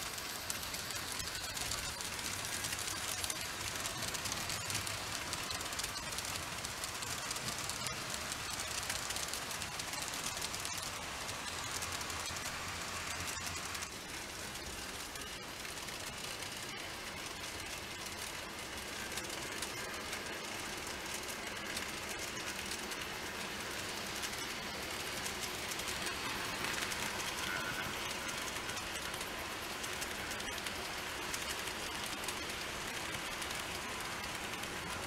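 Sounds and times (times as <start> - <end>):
model train wheels rattling on rails: 0.0 - 35.0.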